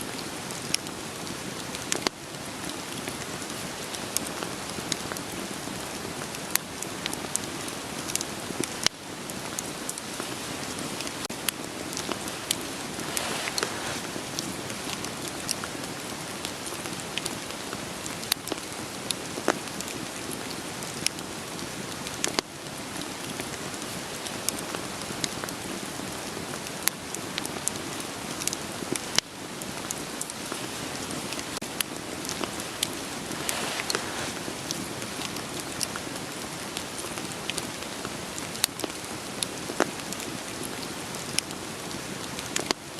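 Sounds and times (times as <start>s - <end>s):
rain hiss: 0.0s - 42.9s
log fire crackling and popping: 0.2s - 42.8s.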